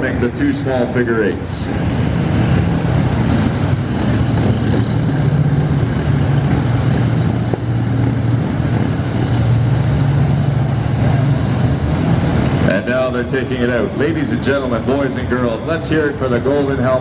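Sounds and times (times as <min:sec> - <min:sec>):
motorcycle engines humming: 0:00.0 - 0:17.0.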